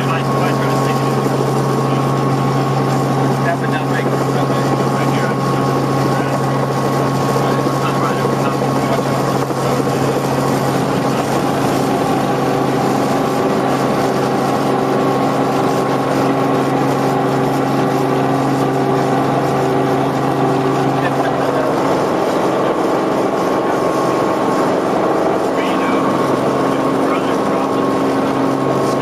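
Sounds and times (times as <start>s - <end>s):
helicopter flying: 0.0s - 29.0s.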